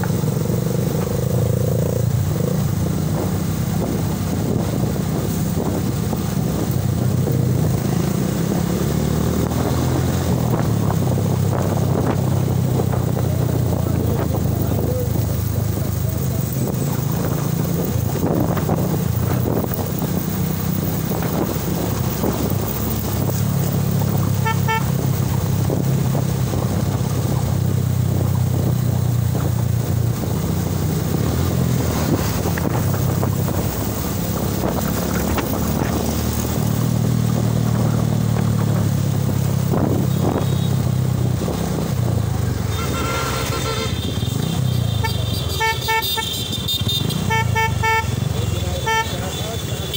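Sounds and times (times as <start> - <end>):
wind rushing over microphone: 0.0 - 44.7
motorcycle engine running: 0.0 - 49.9.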